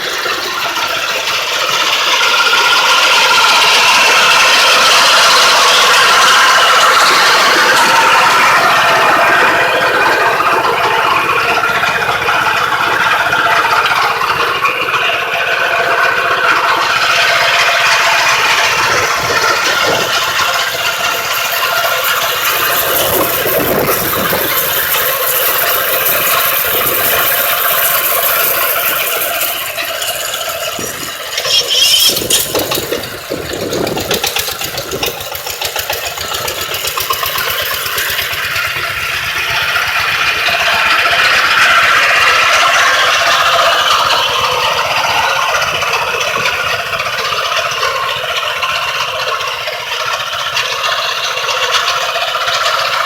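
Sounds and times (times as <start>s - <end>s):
harvester engine rattling: 0.0s - 53.0s.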